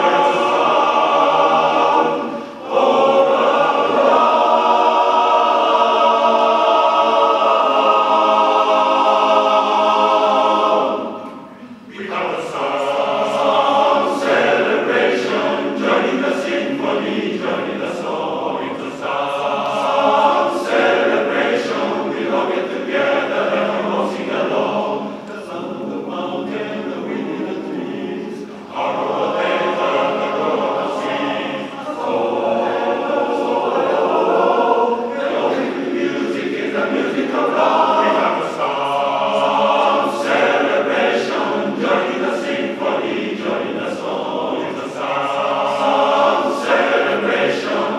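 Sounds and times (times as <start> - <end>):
men's chorus singing a cappella: 0.0 - 47.9.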